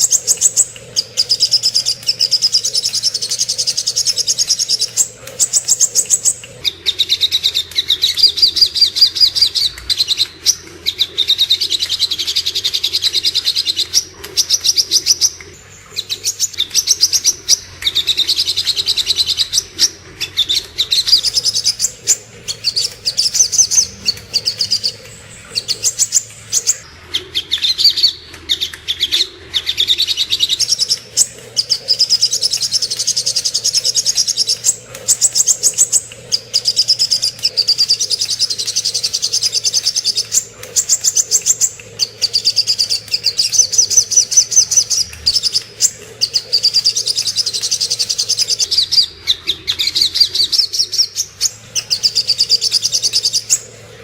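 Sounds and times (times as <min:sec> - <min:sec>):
bird singing rapid chirps: 0:00.0 - 0:54.0.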